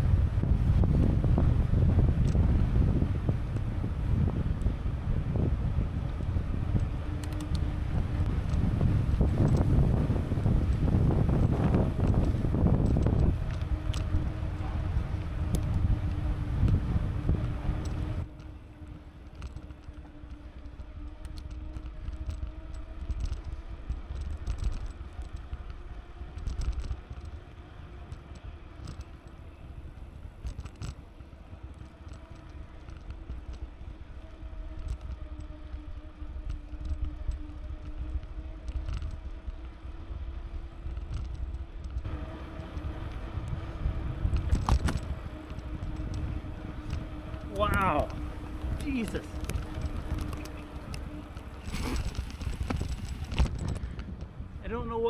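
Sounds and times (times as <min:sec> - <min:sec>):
steady low hum: 0:00.0 - 0:54.7
bicycle tyre rumble: 0:00.0 - 0:55.0
wind on microphone: 0:00.0 - 0:55.0
light clicks and rattles: 0:06.1 - 0:16.8, 0:17.4 - 0:42.1, 0:44.3 - 0:54.2.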